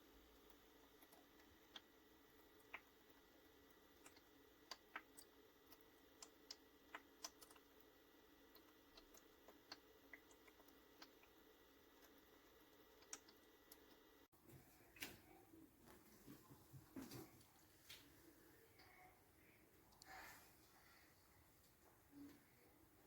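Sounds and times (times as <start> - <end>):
faint irregular ticks and clicks: 0.0 - 23.0
faint steady hum: 0.0 - 23.0.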